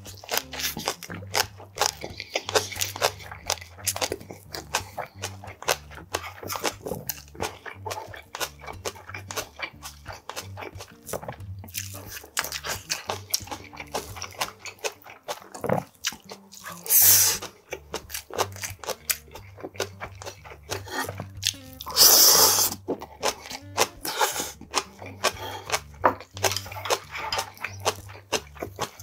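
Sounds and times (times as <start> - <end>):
chewing and crunching: 0.0 - 29.0
slurps: 0.0 - 29.0.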